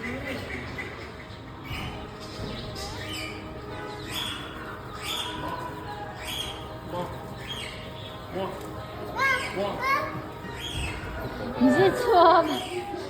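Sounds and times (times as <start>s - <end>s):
birds chirping: 0.0s - 13.0s
steady background din: 0.0s - 13.0s.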